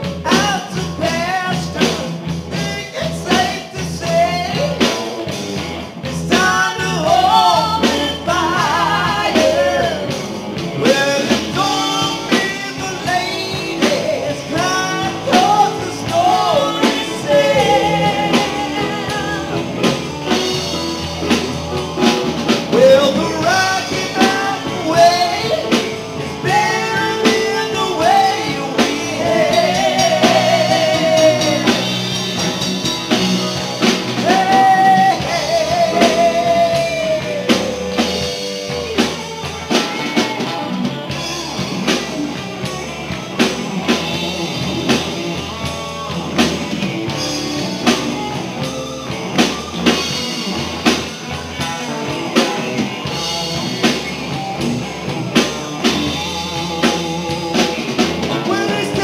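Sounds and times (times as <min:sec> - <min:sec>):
bass guitar: 0:00.0 - 0:59.0
drum kit beat: 0:00.0 - 0:59.0
electric guitars: 0:00.0 - 0:59.0
person singing lead vocal: 0:00.0 - 0:59.0.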